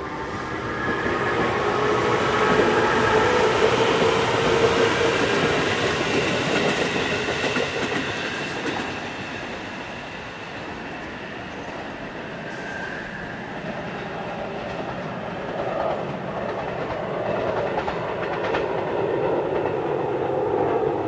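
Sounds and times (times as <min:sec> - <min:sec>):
wheel and rail noise: 0:00.0 - 0:21.0.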